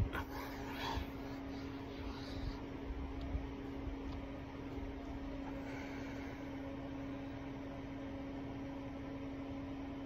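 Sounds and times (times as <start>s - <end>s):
appliance hum: 0.0s - 10.0s.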